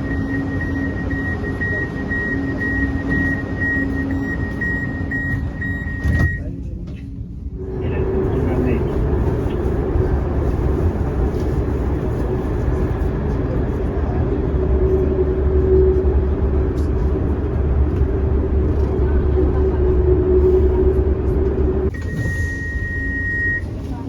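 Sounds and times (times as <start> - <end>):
train rumbling with motor whine: 0.0 - 24.0.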